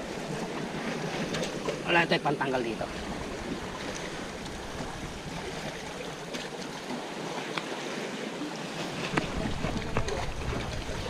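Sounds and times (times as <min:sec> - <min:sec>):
sea water washing against rocks: 0:00.0 - 0:11.0.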